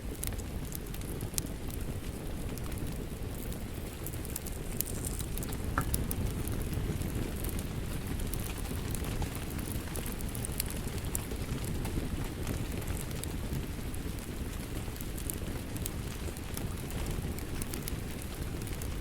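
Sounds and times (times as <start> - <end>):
sharp fire pops: 0.0 - 19.0
wood fire crackling: 0.0 - 19.0.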